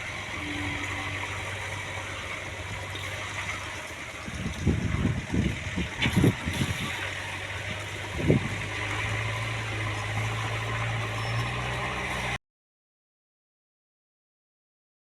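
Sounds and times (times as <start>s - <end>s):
diesel engine running: 0.0s - 12.4s.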